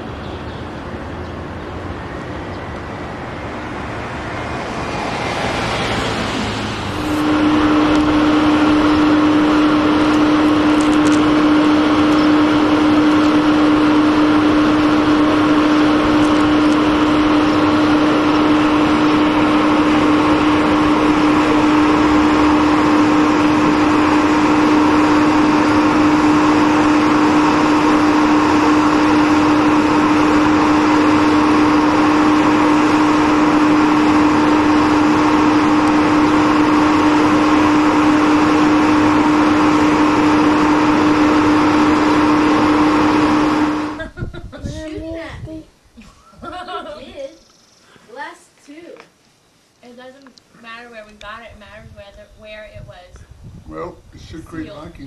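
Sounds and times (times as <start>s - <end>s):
steady loud hum: 0.0s - 48.3s, 49.6s - 55.0s.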